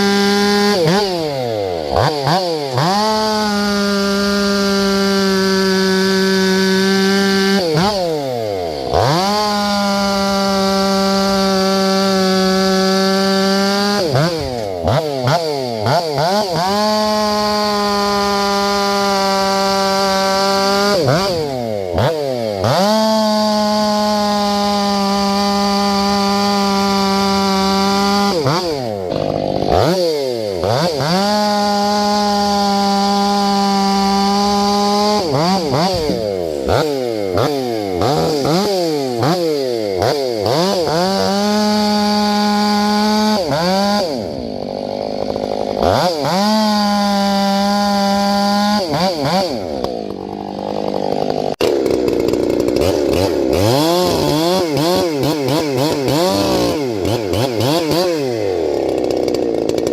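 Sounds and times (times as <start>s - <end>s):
chainsaw cutting logs: 0.0s - 59.9s.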